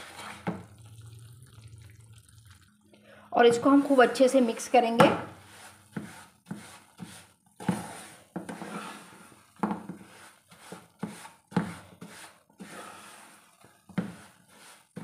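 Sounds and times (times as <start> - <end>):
wooden spatula scraping pan: 0.0 - 0.8, 3.4 - 15.0.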